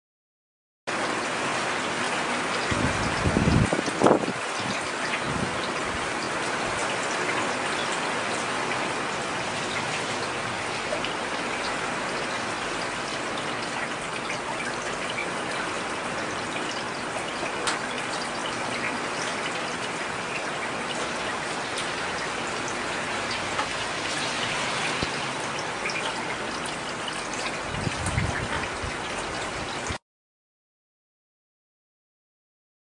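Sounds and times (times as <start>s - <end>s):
heavy rain falling: 0.9s - 30.0s
raindrops ticking: 2.0s - 29.8s.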